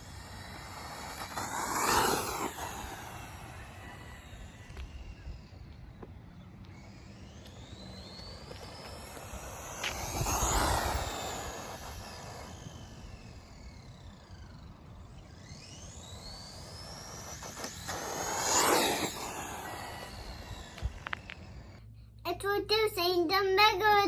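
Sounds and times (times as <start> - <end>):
rc car motor whine: 0.0 - 21.9.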